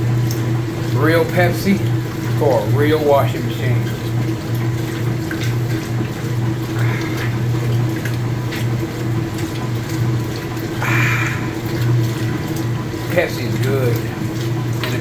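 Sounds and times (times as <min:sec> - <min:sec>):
washing machine motor hum: 0:00.0 - 0:15.0
water sloshing and churning: 0:00.0 - 0:15.0.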